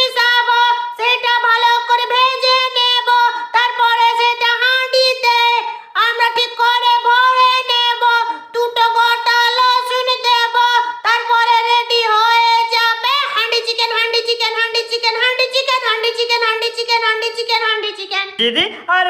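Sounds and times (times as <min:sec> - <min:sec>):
high-pitched voice chanting: 0:00.0 - 0:19.0.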